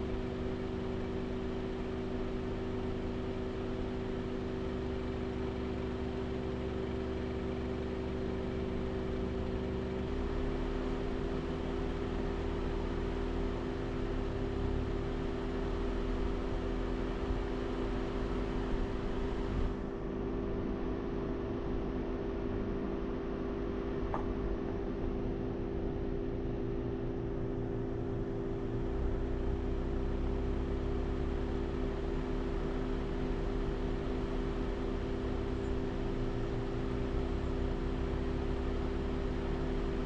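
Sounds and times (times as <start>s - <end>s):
car running hum: 0.0s - 40.0s.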